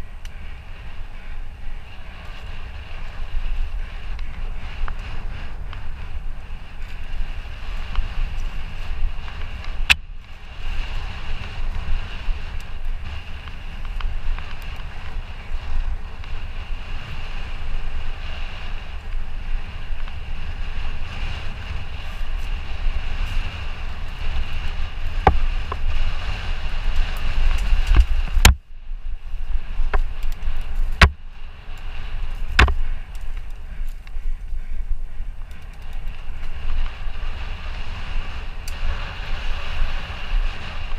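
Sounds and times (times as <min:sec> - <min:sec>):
wind buffeting microphone: 0:00.0 - 0:40.9
bike clacking over bumps: 0:00.1 - 0:28.6, 0:32.3 - 0:40.9.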